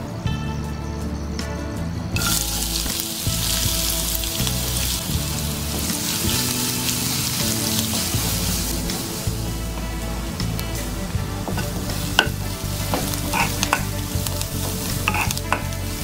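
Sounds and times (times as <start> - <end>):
background music: 0.0 - 16.0
hot oil sizzling: 2.2 - 16.0.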